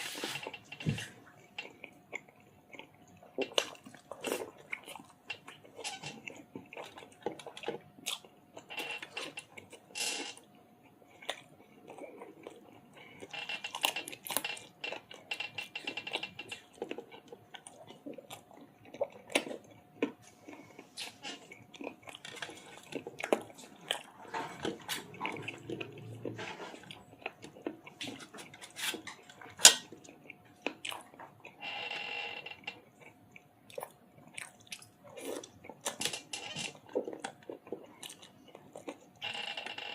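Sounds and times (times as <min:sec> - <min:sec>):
person chewing and smacking: 0:00.2 - 0:31.6, 0:32.6 - 0:39.2.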